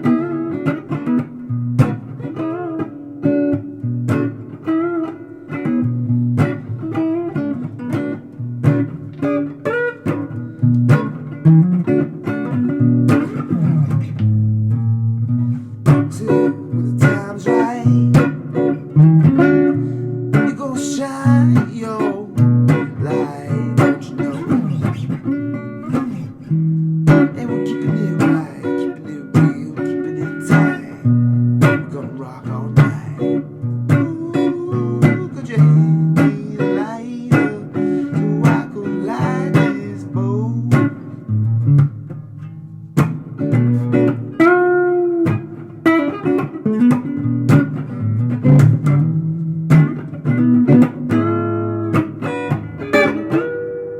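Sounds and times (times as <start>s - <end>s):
blues guitar improvising: 0.0s - 53.9s.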